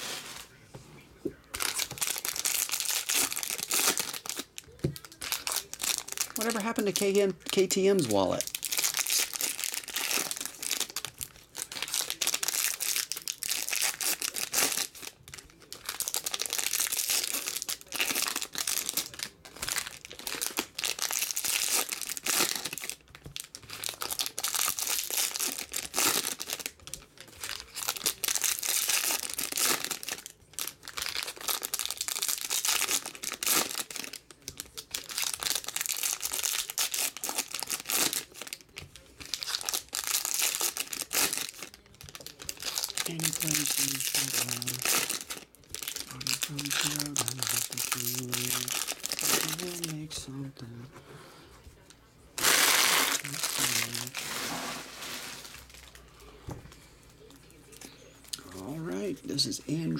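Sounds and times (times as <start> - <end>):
foil wrappers tearing and crumpling: 1.5 - 50.3, 52.4 - 56.0.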